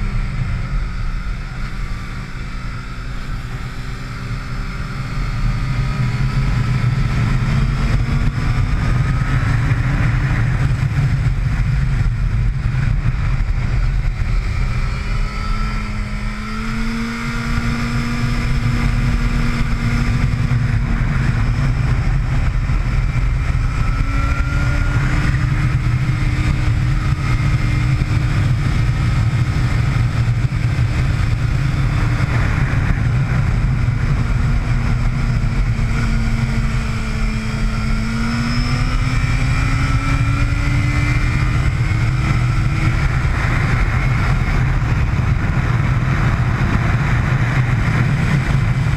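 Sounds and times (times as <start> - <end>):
motorcycle engine revving: 0.0 - 48.9
wind rumble: 0.0 - 48.9.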